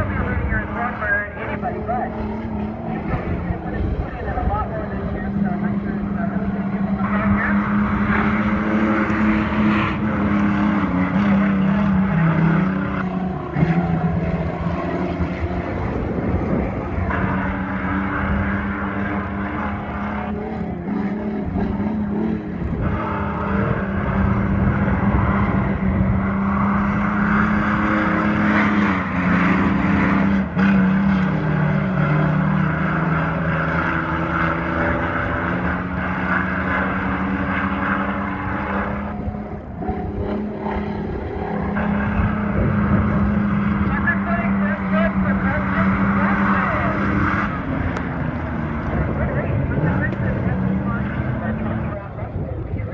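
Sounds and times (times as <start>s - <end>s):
racing truck engines droning: 0.0s - 52.9s.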